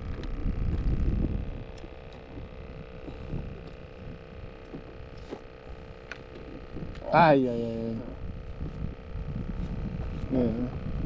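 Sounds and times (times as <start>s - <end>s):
faint steady hum: 0.0s - 11.0s
wind rumble on microphone: 0.0s - 11.0s.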